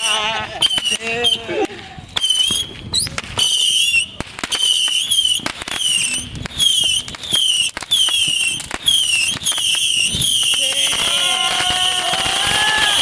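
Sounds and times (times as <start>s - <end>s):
firework bangs and pops: 0.0s - 1.4s, 2.1s - 13.0s.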